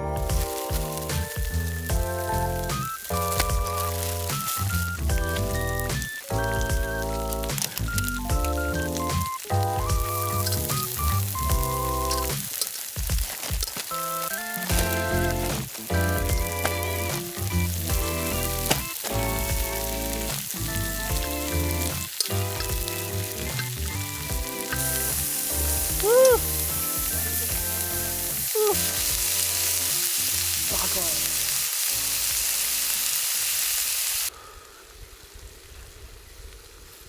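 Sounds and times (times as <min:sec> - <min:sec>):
background music with bass: 0:00.0 - 0:12.5, 0:14.2 - 0:33.0
meat sizzling on grill pan: 0:00.2 - 0:34.3.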